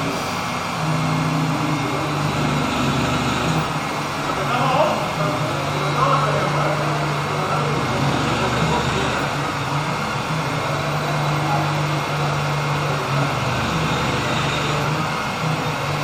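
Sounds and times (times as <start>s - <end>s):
machine tool hum: 0.0s - 16.0s.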